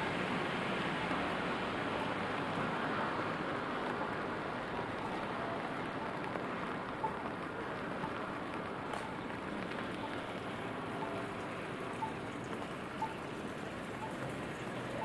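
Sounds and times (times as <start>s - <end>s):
rain on pavement: 0.0s - 15.0s.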